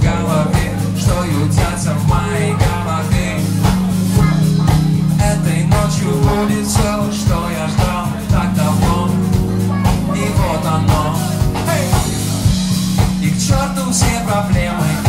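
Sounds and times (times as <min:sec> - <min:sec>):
live rock band playing: 0:00.0 - 0:15.0
man singing into a microphone: 0:00.0 - 0:15.0.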